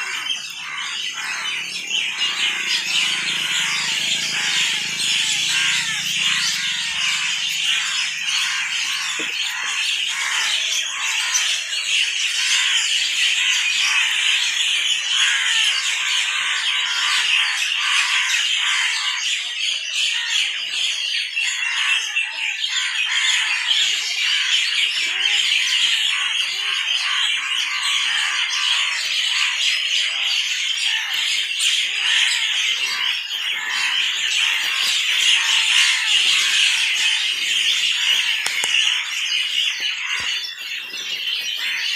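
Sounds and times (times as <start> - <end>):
birds chirping and squawking: 0.0 - 41.9.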